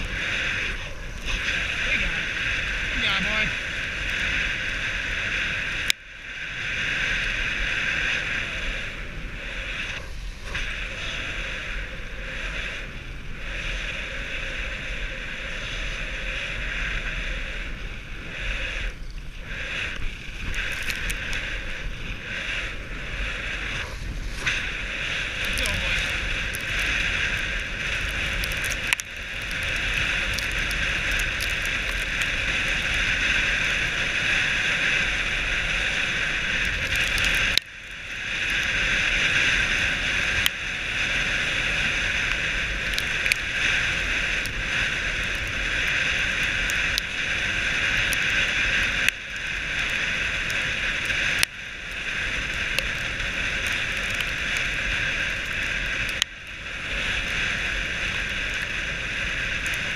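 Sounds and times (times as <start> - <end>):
sled runners hissing over snow: 0.0 - 59.9
wind rumbling on microphone: 0.0 - 59.9.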